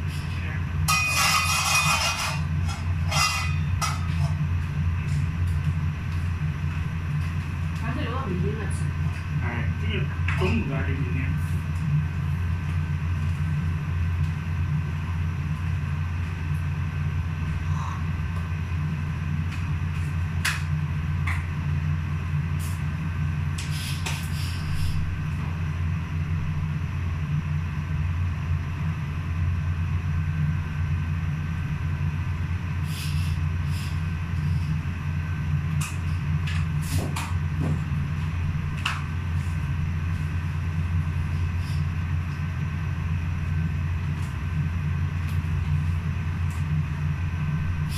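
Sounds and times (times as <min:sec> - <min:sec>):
range hood fan droning: 0:00.0 - 0:47.9.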